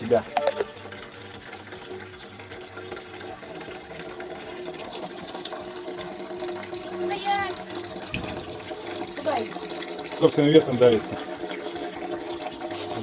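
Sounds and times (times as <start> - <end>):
juice trickling into container: 0.0 - 13.0.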